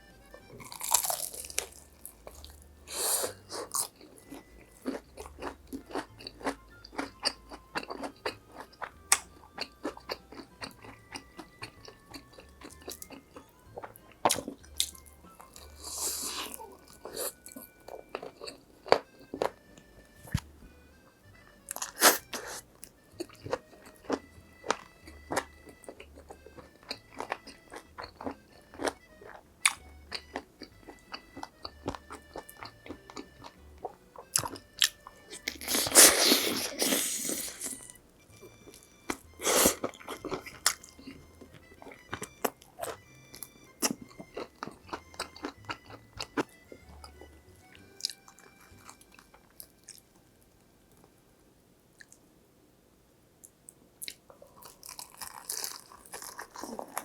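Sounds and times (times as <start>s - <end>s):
crunching and chewing crispy food: 0.0s - 20.5s, 21.6s - 51.1s, 53.4s - 57.0s
soft background music with beat: 0.0s - 50.0s.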